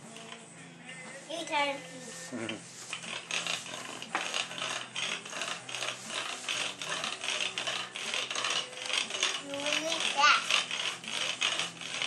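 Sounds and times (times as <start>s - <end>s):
rolling pin rolling over dough: 0.0s - 12.0s.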